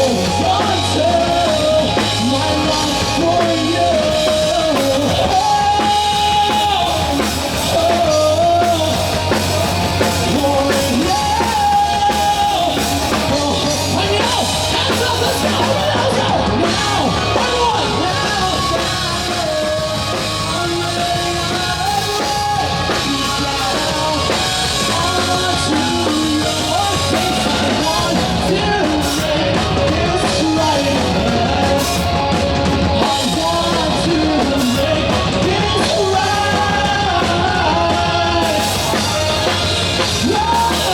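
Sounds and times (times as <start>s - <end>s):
live rock band playing: 0.0s - 40.9s
person singing: 0.0s - 40.9s.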